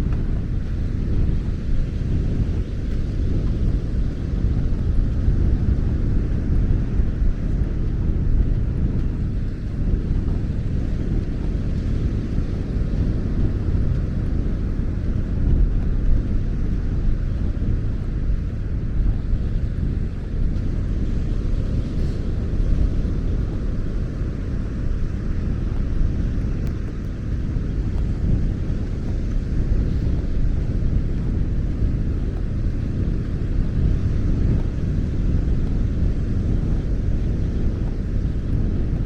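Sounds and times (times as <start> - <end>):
surf on beach: 0.0 - 39.0
wind buffeting microphone: 0.0 - 39.0.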